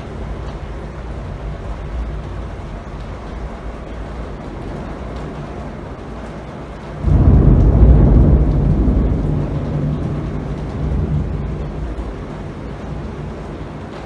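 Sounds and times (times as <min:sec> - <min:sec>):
heavy rain falling: 0:00.0 - 0:14.0
thunder clap and rumble: 0:00.0 - 0:14.0.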